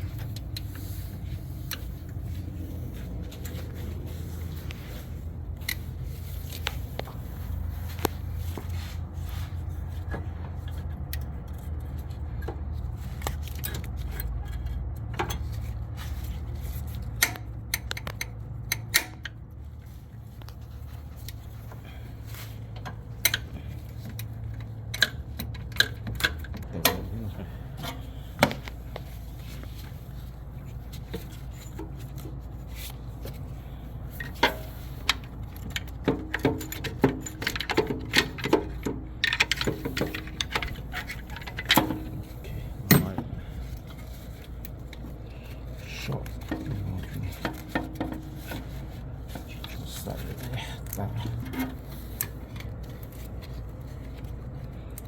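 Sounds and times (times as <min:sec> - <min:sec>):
steady low hum: 0:00.0 - 0:55.0
tools and metal parts clinking: 0:09.7 - 0:19.4, 0:20.4 - 0:55.0.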